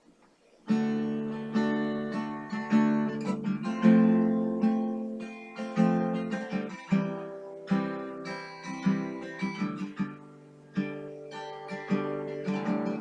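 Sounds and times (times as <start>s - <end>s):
acoustic guitar strumming: 0.6s - 13.0s.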